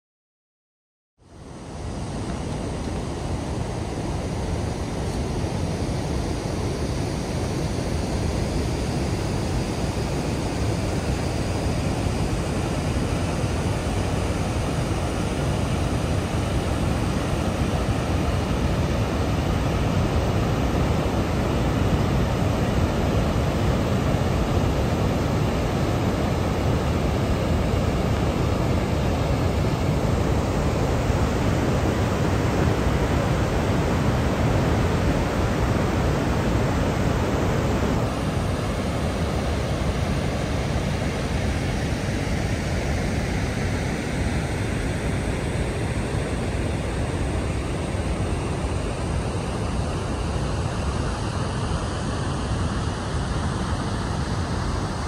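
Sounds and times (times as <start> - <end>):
water rushing down dam spillway: 1.4 - 55.0.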